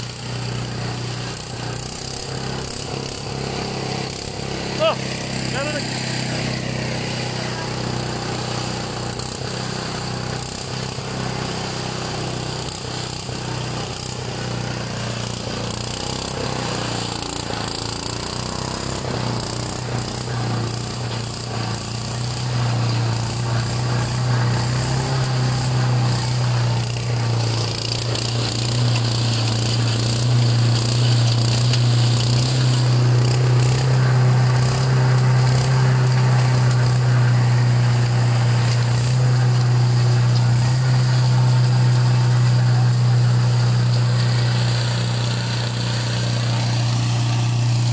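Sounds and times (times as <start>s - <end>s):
garden shredder engine droning: 0.0s - 47.9s.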